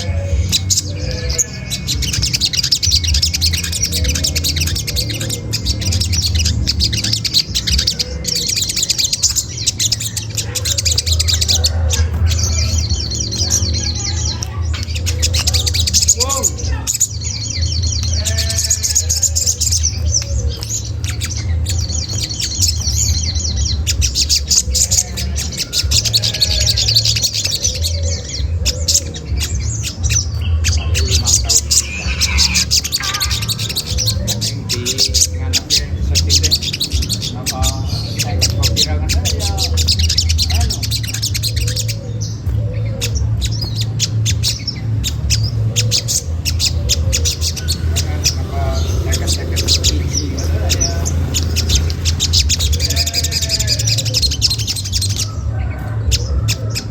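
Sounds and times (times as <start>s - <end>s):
bird chattering calls: 0.0s - 56.9s.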